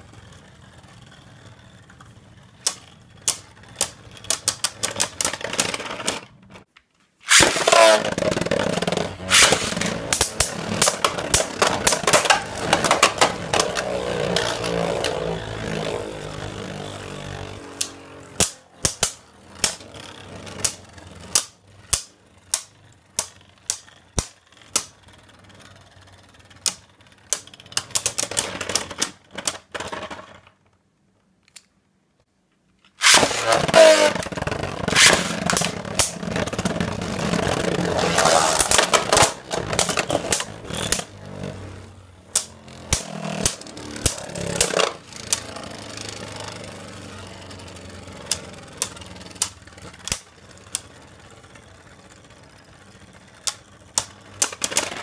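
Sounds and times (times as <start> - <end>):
spinning tops whirring and clashing: 0.0 - 6.5, 7.2 - 30.2, 32.9 - 55.0.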